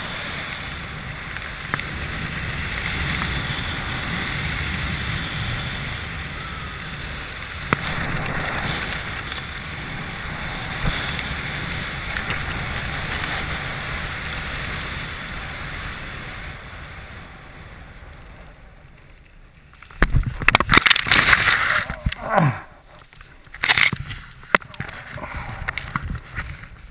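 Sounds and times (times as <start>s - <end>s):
wind rushing over microphone: 0.0s - 19.1s, 20.0s - 26.9s
rustling in dry grass: 0.0s - 26.9s.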